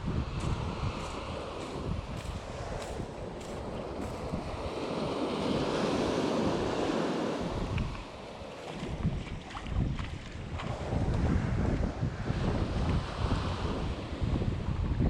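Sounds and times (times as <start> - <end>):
wave washing on shore: 0.0 - 15.0
wind buffeting microphone: 0.0 - 15.0.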